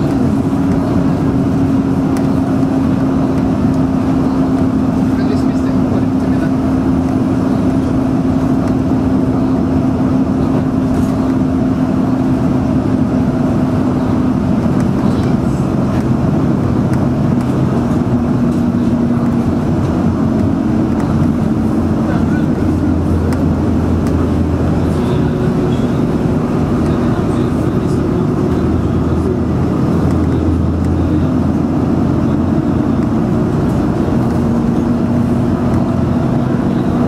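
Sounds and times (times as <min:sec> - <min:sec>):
bus engine and tyre drone: 0:00.0 - 0:37.0.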